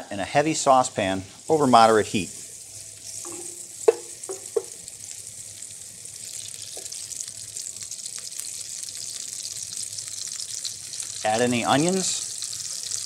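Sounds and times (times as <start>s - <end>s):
fat sizzling in a saucepan: 0.0s - 13.0s.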